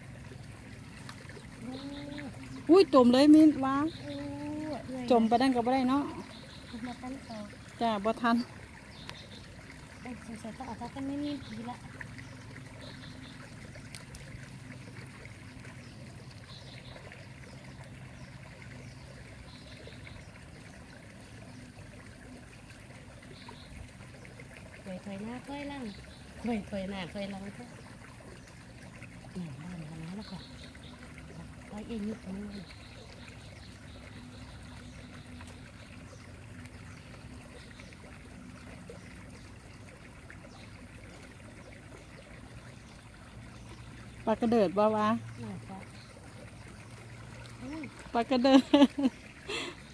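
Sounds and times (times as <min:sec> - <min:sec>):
light rain on water and leaves: 0:00.0 - 0:49.9.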